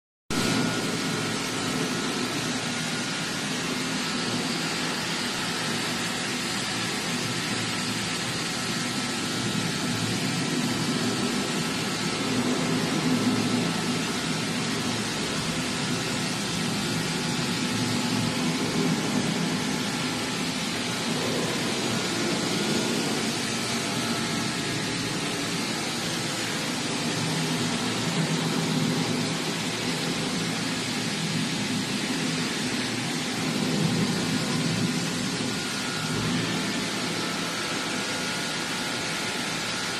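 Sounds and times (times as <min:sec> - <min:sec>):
machine droning with hiss: 0:00.4 - 0:39.9.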